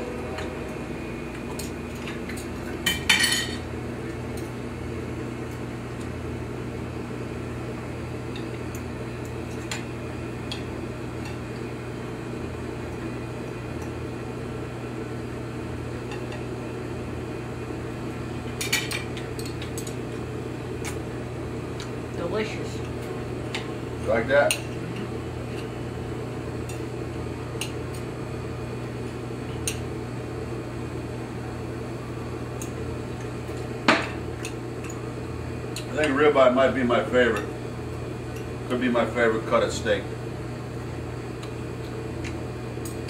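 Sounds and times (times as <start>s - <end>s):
steady background hum: 0.0s - 43.0s.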